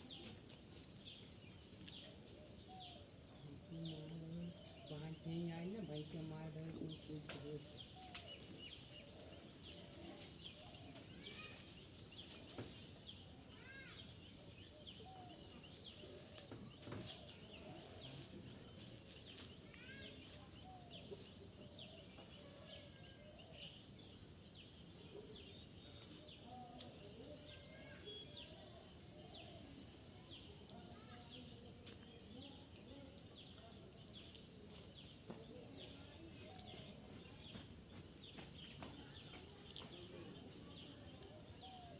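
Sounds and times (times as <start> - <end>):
birdsong: 0.0 - 41.9
outdoor background noise: 0.0 - 41.9.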